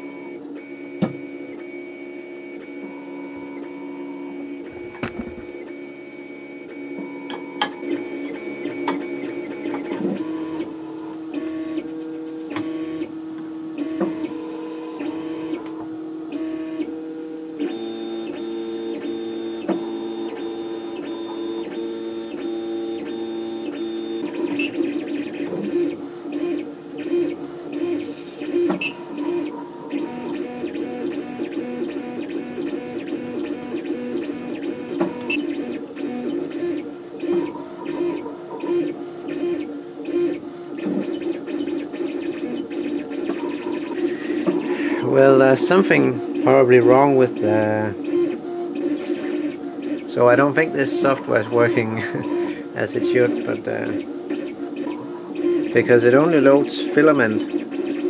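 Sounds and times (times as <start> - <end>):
stepper motors whining: 2.4 - 58.0.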